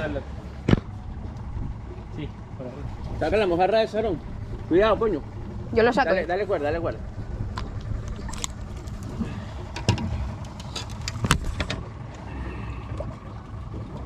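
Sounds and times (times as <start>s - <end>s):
low boat rumble: 0.0s - 14.0s.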